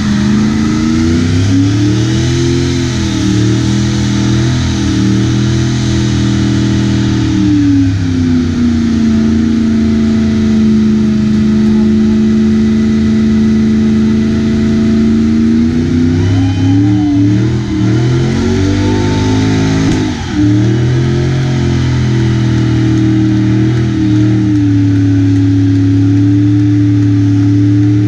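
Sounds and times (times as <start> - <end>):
car engine at steady revs: 0.0 - 28.0.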